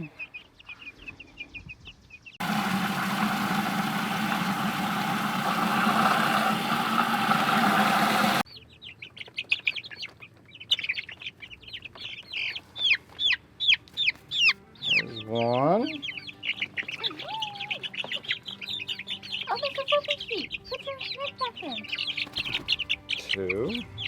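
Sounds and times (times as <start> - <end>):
baby chicks peeping: 0.0 - 6.4, 7.0 - 24.0.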